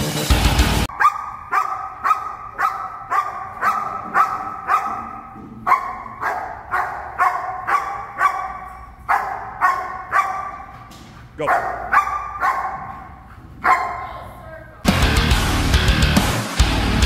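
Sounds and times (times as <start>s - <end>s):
dog barking: 0.9s - 14.9s.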